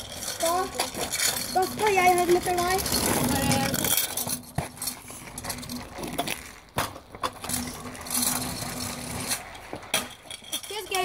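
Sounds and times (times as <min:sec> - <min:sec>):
scooter wheels grinding on asphalt: 0:00.0 - 0:11.0.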